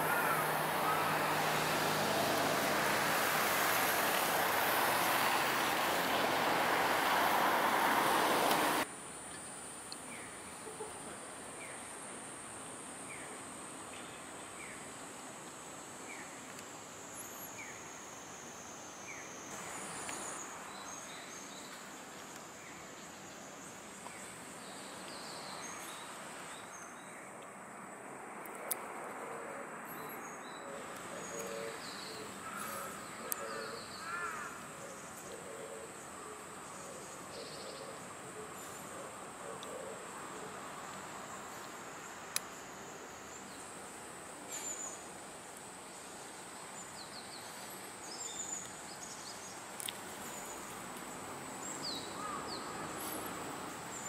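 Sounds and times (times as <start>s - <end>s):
traffic noise: 0.0s - 54.0s.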